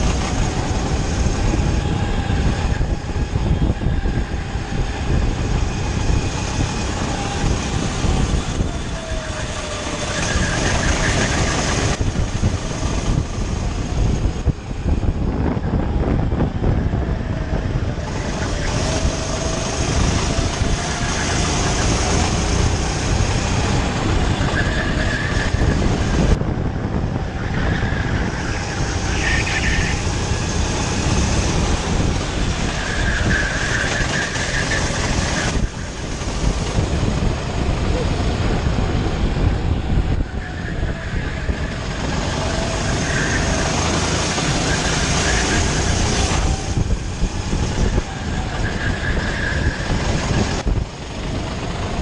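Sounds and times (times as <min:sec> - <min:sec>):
go-kart engine running hard: 0:00.0 - 0:52.0
other karts: 0:00.0 - 0:52.0
wind rushing: 0:00.0 - 0:52.0.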